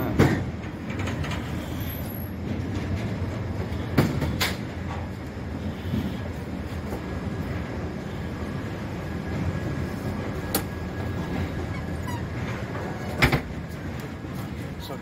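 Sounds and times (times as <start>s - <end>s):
train wheels rumbling on bridge: 0.0s - 15.0s.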